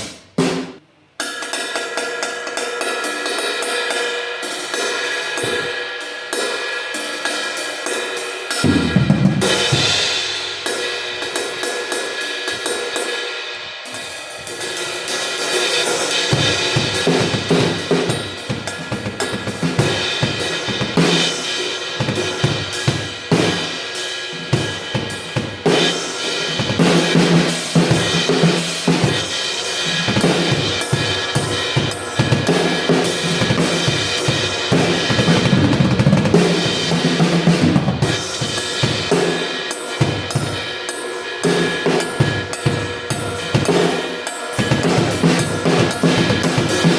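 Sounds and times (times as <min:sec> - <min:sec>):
drum kit groove: 0:00.0 - 0:03.8, 0:04.6 - 0:46.9
crash cymbal: 0:01.2 - 0:46.9.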